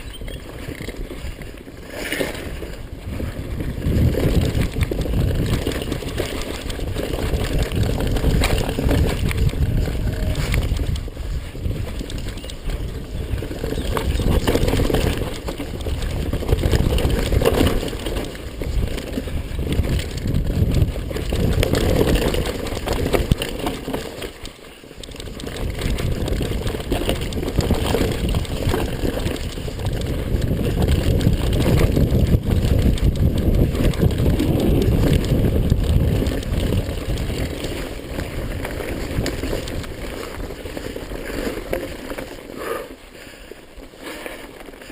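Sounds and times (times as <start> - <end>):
wind on microphone: 0.0 - 24.2, 25.0 - 42.8
bike rattling: 0.0 - 44.9
bike tyres rumbling on dirt: 0.0 - 44.9.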